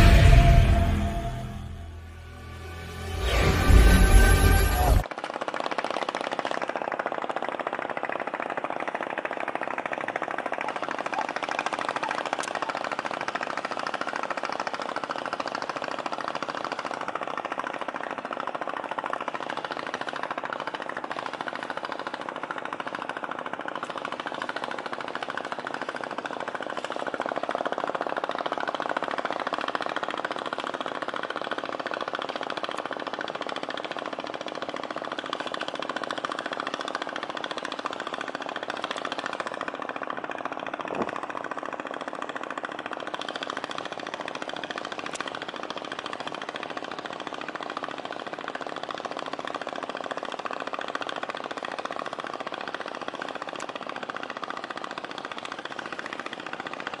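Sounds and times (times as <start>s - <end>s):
engine rattling chug: 0.0s - 57.0s.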